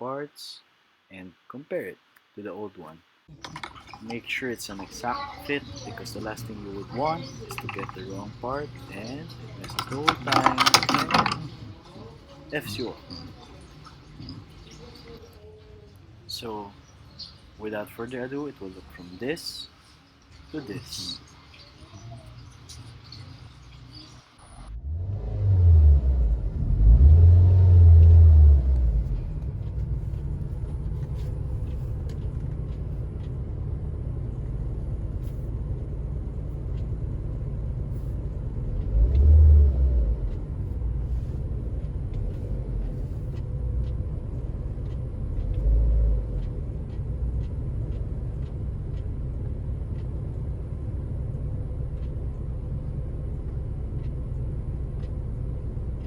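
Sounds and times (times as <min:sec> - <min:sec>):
car engine idling and revving: 0:03.3 - 0:56.0.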